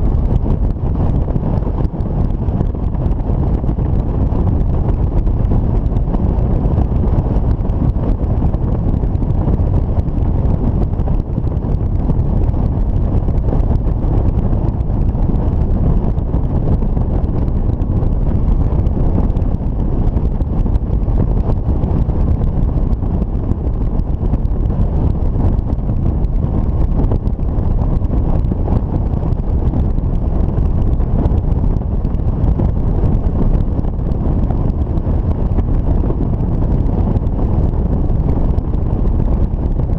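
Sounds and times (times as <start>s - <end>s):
motorcycle engine and road noise: 0.0s - 39.9s
wind rumbling on microphone: 0.0s - 39.9s.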